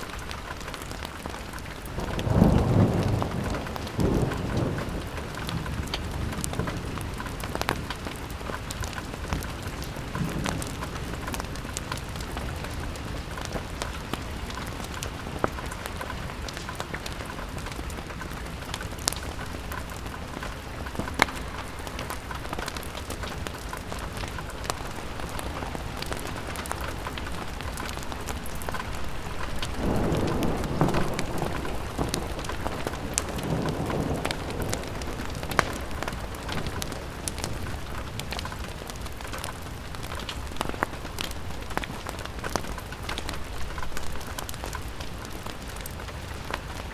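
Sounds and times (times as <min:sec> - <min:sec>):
rain on a window: 0:00.0 - 0:46.9.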